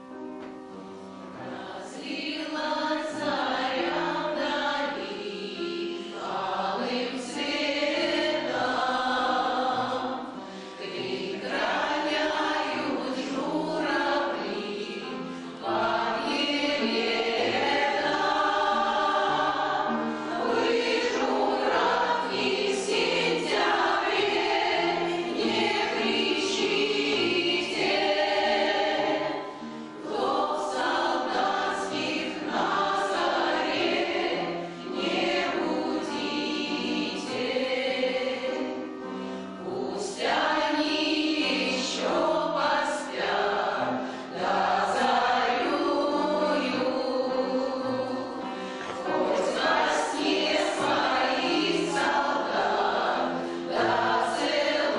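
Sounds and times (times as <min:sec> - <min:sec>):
choir singing: 0:01.2 - 0:54.9.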